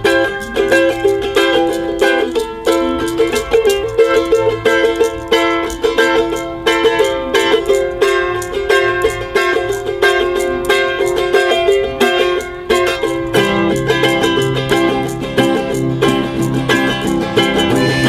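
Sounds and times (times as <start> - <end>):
acoustic guitar strumming: 0.0 - 18.0
small ten-string instrument strummed: 0.0 - 18.0.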